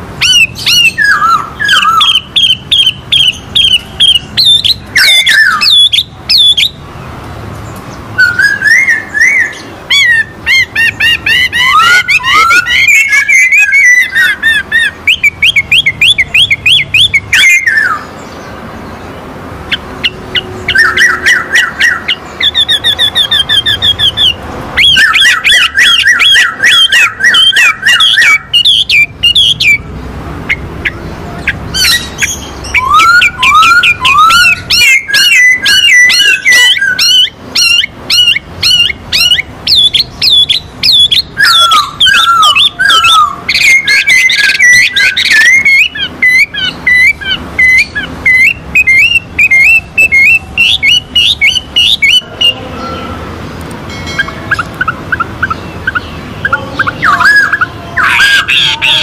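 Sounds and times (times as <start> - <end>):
songbirds singing whistled song: 0.0 - 59.0.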